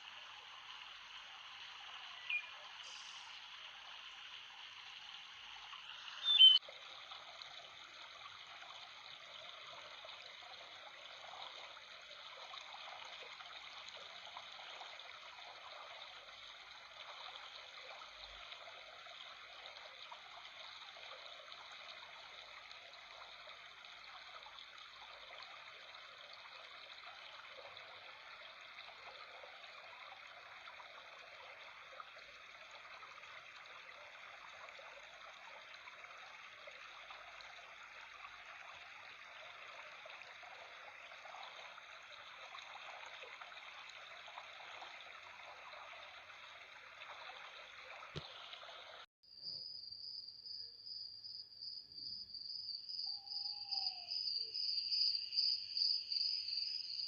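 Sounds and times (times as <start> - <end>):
water trickling and babbling: 0.0 - 49.1.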